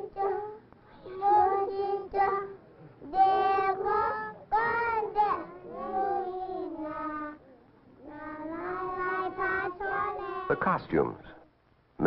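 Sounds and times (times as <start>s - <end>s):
children singing: 0.0s - 10.8s.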